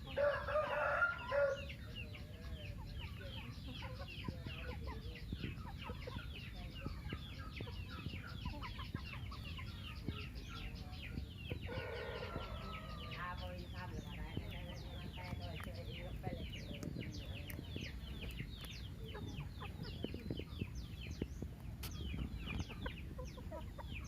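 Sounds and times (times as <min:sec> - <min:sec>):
chickens calling: 0:00.0 - 0:24.0.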